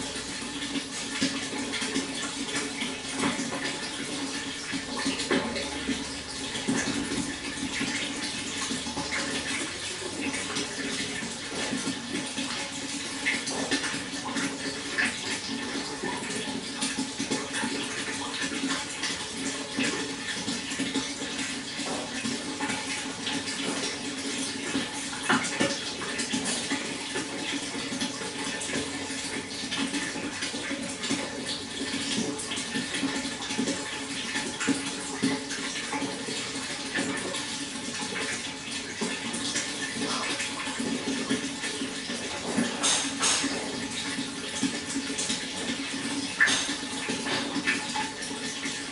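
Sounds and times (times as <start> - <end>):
flowing water splashing: 0.0 - 48.9.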